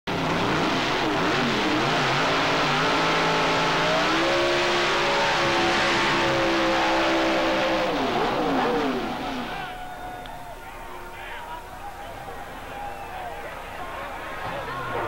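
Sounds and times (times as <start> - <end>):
race car engines revving: 0.1 - 15.0.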